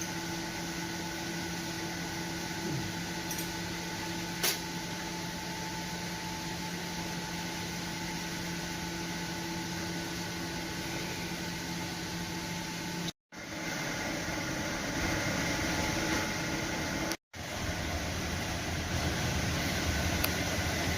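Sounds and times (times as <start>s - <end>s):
mechanical hum: 0.0s - 20.9s.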